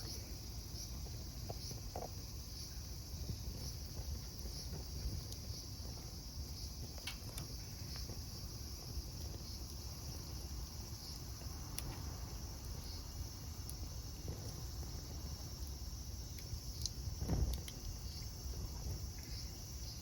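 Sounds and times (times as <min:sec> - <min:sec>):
crickets chirping: 0:00.0 - 0:20.0
sharp crackles: 0:00.8 - 0:20.0.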